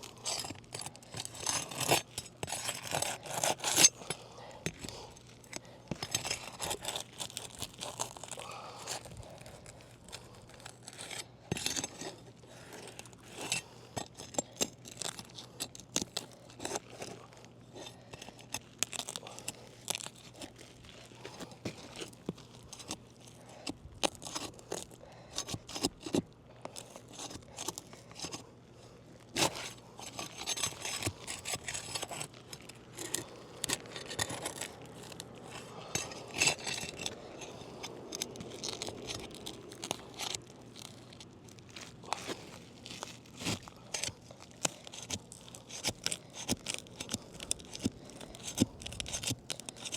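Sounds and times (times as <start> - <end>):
pry bar scraping shingles: 0.1 - 49.9.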